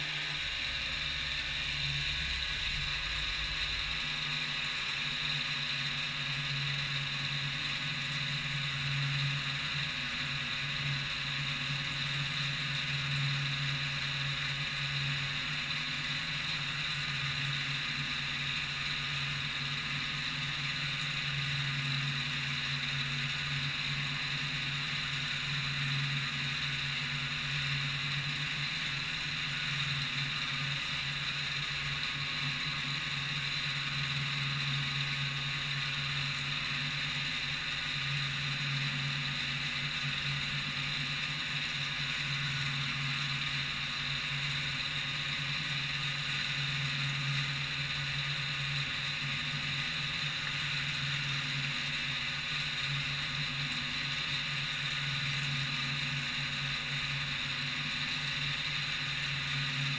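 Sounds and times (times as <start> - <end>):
low machine hum: 0.0 - 59.9
milling machine spindle whine: 0.0 - 59.9.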